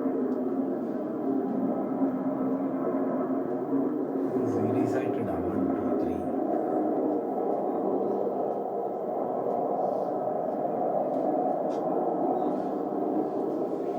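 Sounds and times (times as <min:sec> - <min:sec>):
hovering craft drone: 0:00.0 - 0:13.9.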